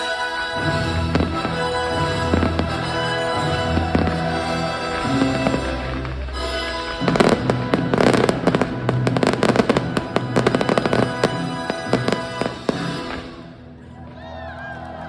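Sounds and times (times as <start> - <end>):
music: 0.0 - 15.0
fireworks bursting: 0.6 - 13.6.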